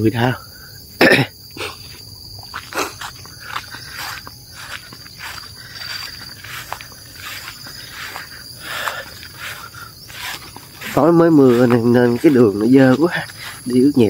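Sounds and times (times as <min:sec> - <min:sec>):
high-pitched insect drone: 0:00.0 - 0:14.0
footsteps on muddy path: 0:01.6 - 0:14.0.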